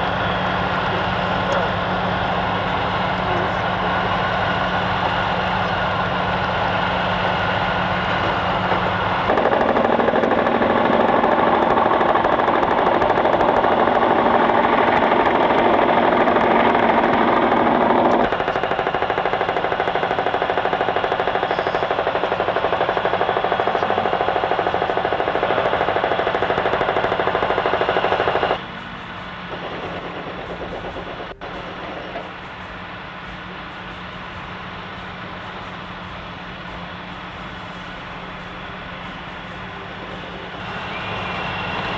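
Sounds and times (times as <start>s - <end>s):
helicopter rotor beating: 0.0s - 41.9s.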